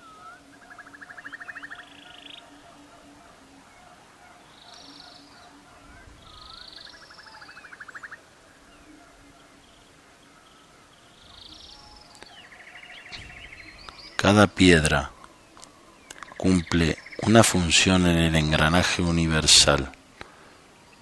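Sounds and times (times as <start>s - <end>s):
bird trills: 0.0s - 17.8s
low pulsing bird call: 0.0s - 18.7s
buzzy bird calls: 0.0s - 19.9s.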